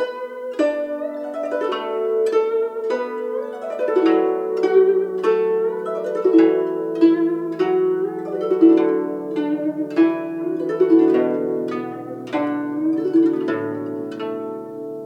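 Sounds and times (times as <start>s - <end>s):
guzheng slow melody: 0.0s - 15.0s.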